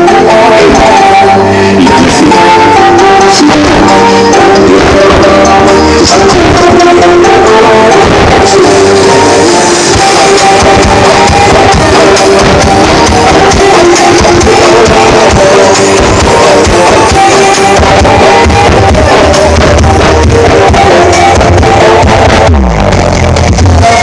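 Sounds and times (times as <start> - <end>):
deep bass: 0.0 - 24.0
loud music from sound system: 0.0 - 24.0.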